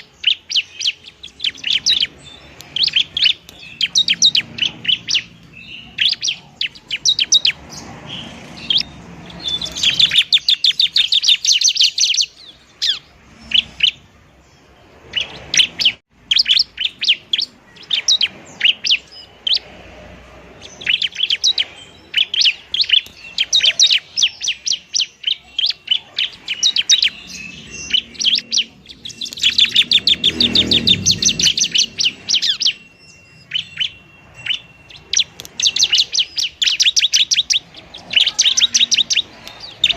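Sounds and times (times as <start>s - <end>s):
bird singing rapid high chirps: 0.0s - 39.9s.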